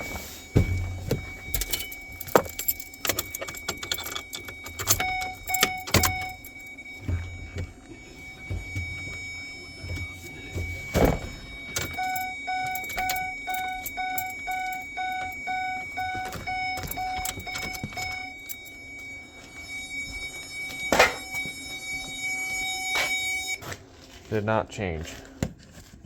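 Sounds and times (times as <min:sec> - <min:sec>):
dashboard warning chime beeping: 0:00.0 - 0:23.6.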